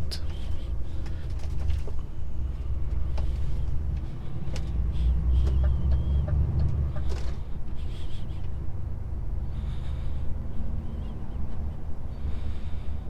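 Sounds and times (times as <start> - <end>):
road rumble: 0.0 - 13.0
truck diesel engine droning: 0.0 - 13.0.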